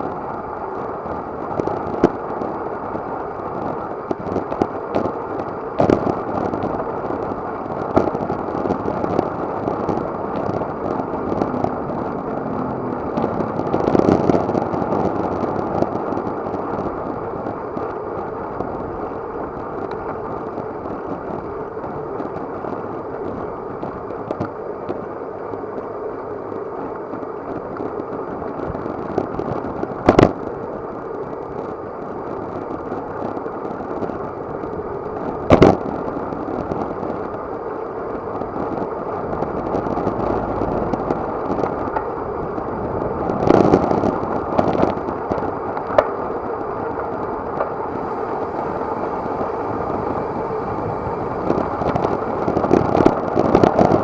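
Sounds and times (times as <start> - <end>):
wind and tyres rushing: 0.0 - 54.0.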